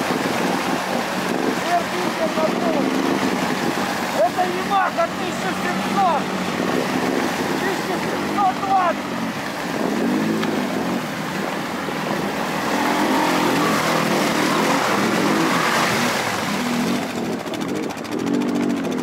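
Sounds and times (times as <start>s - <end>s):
atv engine revving: 0.0s - 19.0s
steady rushing noise: 0.0s - 19.0s.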